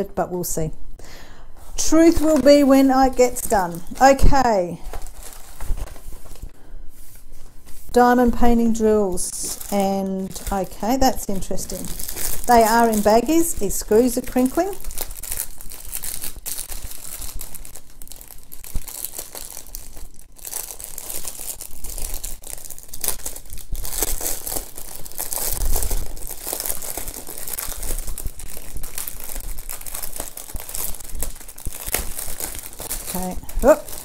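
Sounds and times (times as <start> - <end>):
plastic packaging crinkling: 1.8 - 34.0.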